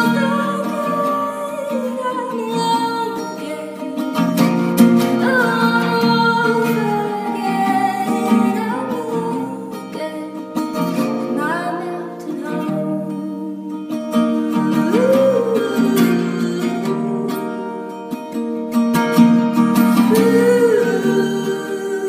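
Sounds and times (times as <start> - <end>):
woman singing: 0.0 - 18.5, 19.8 - 22.0
acoustic guitar: 0.0 - 22.0.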